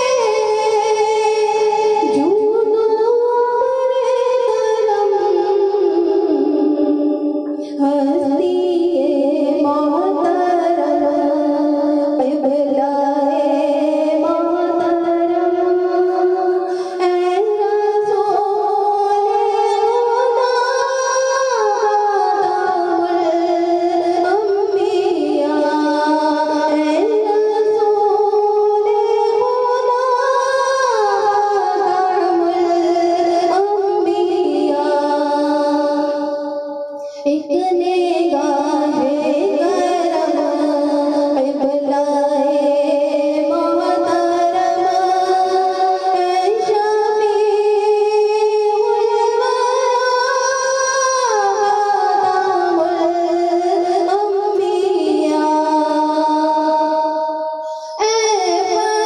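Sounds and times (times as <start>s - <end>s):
woman singing into a microphone: 0.0s - 59.0s.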